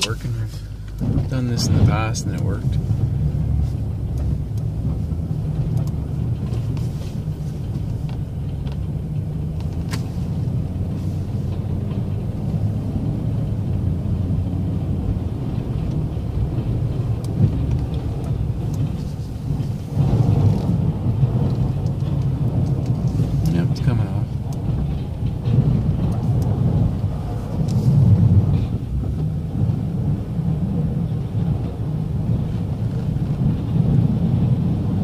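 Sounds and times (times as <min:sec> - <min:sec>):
truck engine rumbling: 0:00.0 - 0:35.0.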